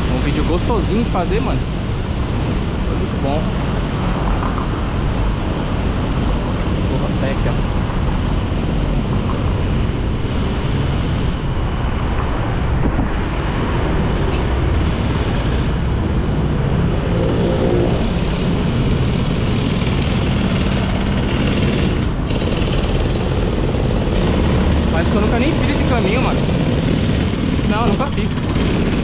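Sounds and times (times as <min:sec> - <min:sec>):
city traffic noise: 0:00.0 - 0:29.0
passing vehicle engine: 0:00.0 - 0:29.0
wind rumble on microphone: 0:00.0 - 0:29.0.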